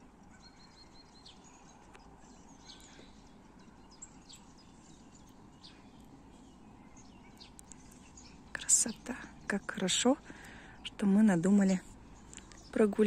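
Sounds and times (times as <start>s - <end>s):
low steady background noise: 0.0s - 13.0s
songbirds chirping and whistling: 0.0s - 13.0s.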